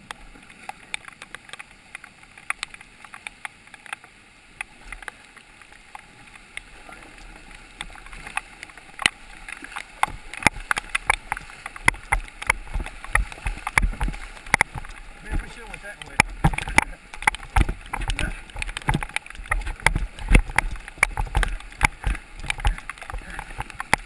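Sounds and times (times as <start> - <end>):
rushing water: 0.0 - 24.0
water splashing against hull: 0.0 - 24.0.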